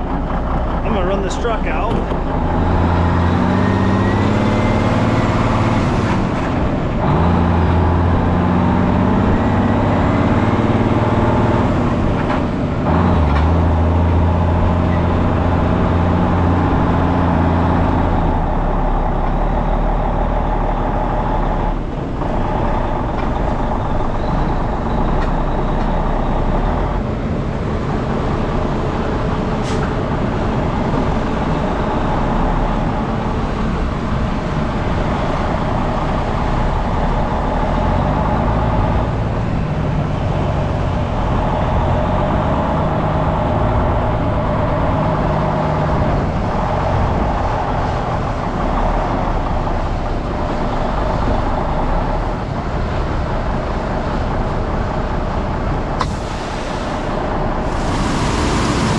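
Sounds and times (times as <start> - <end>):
truck engine driving off: 0.0 - 58.9.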